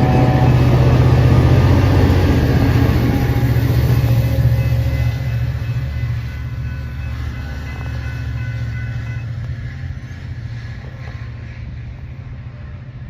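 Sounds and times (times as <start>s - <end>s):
steady tones: 0.0s - 11.9s
train rumbling by: 0.0s - 13.0s.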